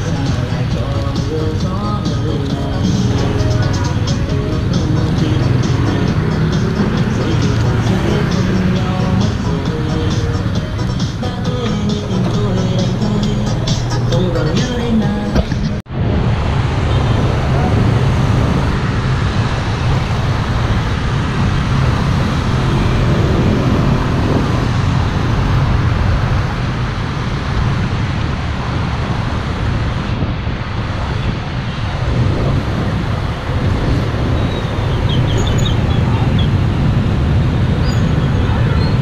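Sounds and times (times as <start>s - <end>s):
vehicle road noise: 0.0s - 39.0s.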